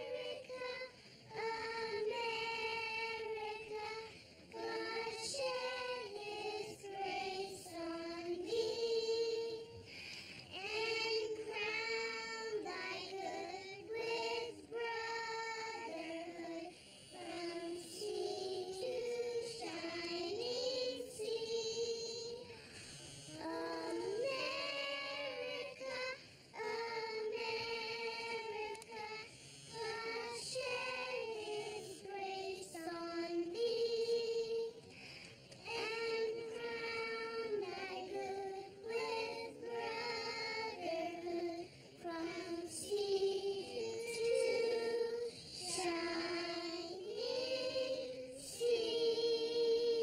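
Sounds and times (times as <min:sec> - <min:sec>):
children singing together: 0:00.0 - 0:50.0.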